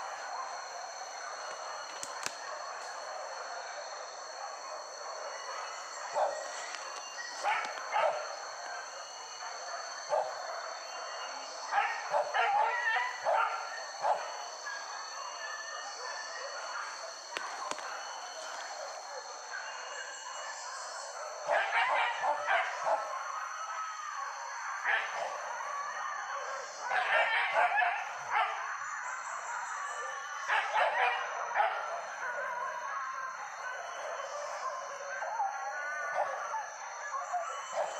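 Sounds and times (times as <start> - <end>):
dogs barking: 0.0 - 29.2, 29.8 - 37.9.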